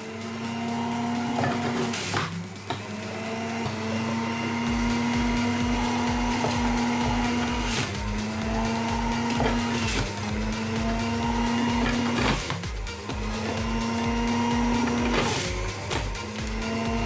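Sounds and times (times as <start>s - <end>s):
juicer motor humming: 0.0s - 17.0s.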